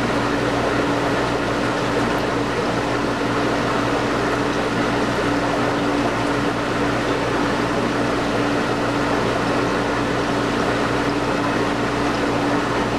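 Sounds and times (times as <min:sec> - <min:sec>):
aquarium equipment hum: 0:00.0 - 0:12.9.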